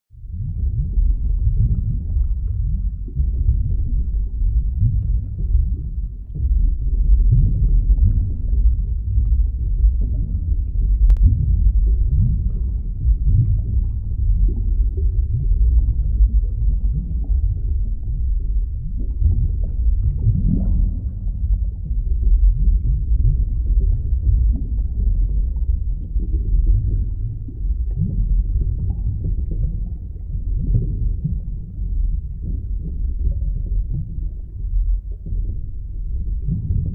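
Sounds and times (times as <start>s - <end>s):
deep muffled underwater rumble: 0.1s - 36.9s.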